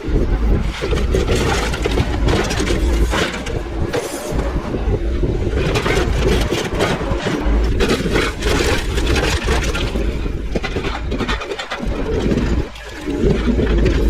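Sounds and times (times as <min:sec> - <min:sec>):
deep rumble: 0:00.0 - 0:14.0
heavy machine engine under load: 0:00.0 - 0:14.0
metal crunching and grinding: 0:00.0 - 0:14.0.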